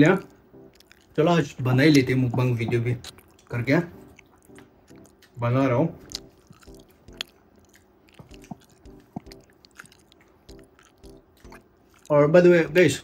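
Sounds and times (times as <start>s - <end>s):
sharp mouth clicks: 0.2s - 1.1s, 1.8s - 5.4s, 6.0s - 12.8s
small crunches: 0.2s - 1.2s, 1.8s - 12.2s
person chewing and biting food: 0.2s - 13.0s.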